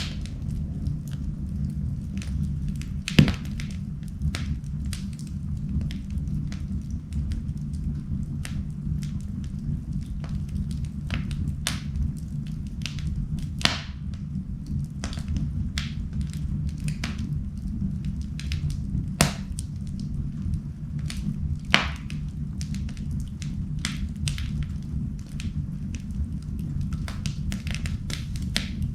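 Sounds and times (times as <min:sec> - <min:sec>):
low fire rumble: 0:00.0 - 0:28.9
wood fire crackling and popping: 0:00.0 - 0:28.9.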